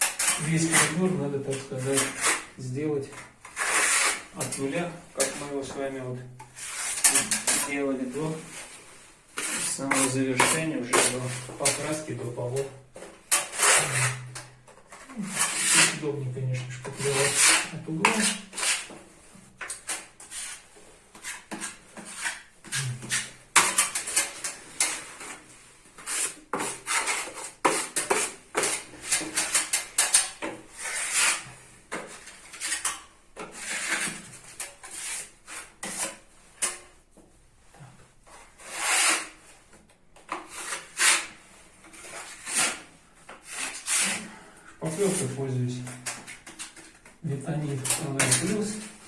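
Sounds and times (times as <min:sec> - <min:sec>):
putty knife scraping wall: 0:00.0 - 0:37.0, 0:37.8 - 0:49.0.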